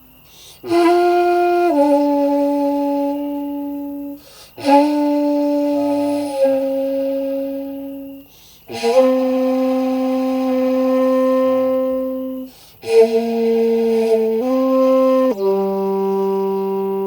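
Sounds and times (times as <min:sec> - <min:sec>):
bamboo flute long notes: 0:00.3 - 0:17.0.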